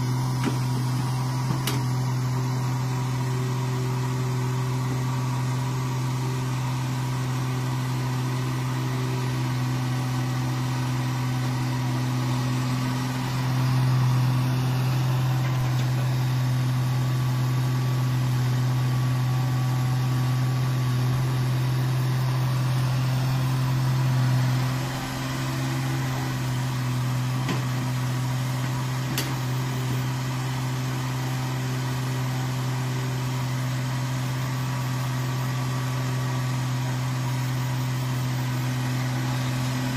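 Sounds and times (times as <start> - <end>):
excavator diesel engine hum: 0.0 - 39.9.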